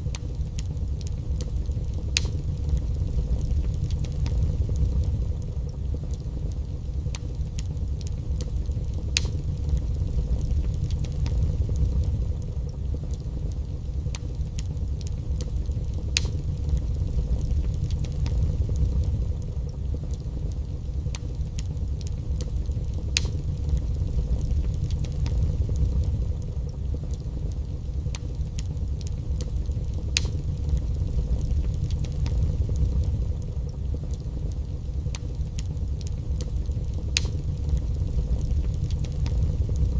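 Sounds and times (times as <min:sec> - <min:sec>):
fire crackling and popping: 0:00.0 - 0:39.9
wood fire burning: 0:00.0 - 0:39.9.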